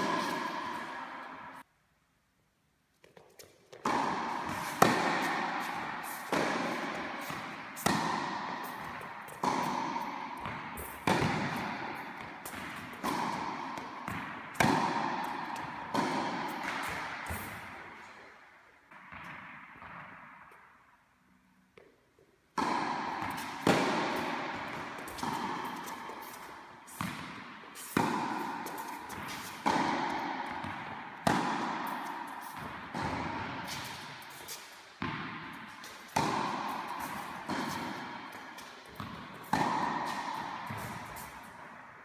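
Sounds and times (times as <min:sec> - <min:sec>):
tennis ball hit by racket: 0:00.0 - 0:01.6, 0:03.7 - 0:20.7, 0:22.5 - 0:41.9.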